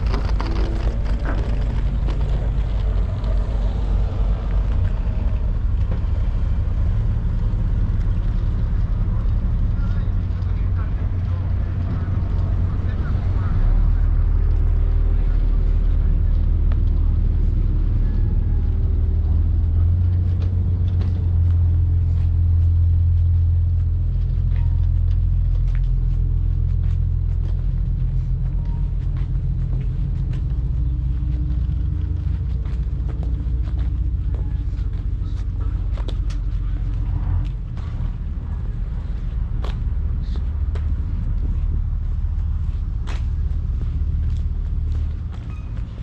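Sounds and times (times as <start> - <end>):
boat engines rumbling: 0.0 - 46.0.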